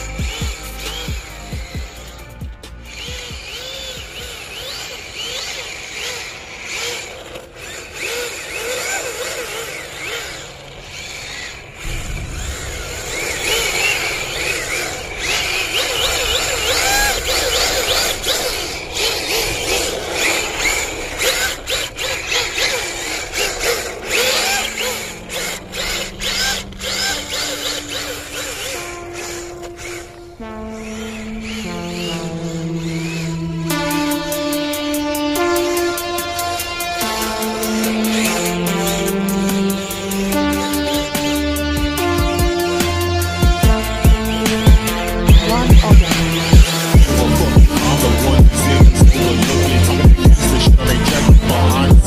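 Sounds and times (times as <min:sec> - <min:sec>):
electric motor whining: 0:00.0 - 0:52.0.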